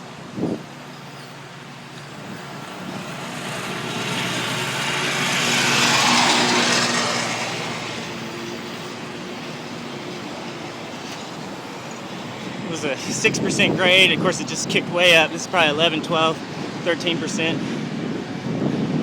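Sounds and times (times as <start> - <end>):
vehicle passing by: 2.7 - 18.7.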